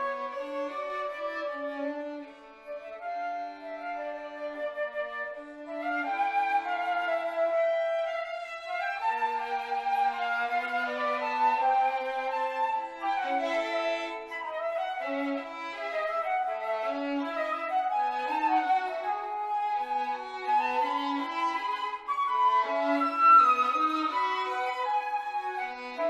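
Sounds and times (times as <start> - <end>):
flute: 0.0 - 26.0
violin: 0.0 - 26.0.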